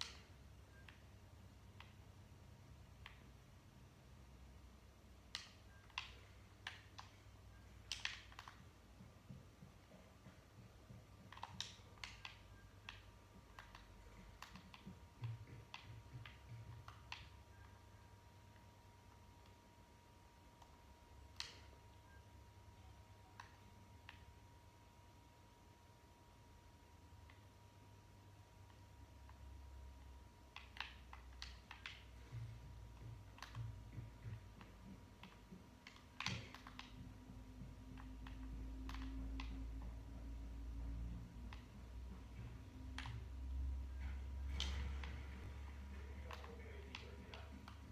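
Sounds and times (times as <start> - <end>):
faint clicks and ticks: 0.0 - 24.6, 26.7 - 47.9
low steady hum: 0.0 - 47.9.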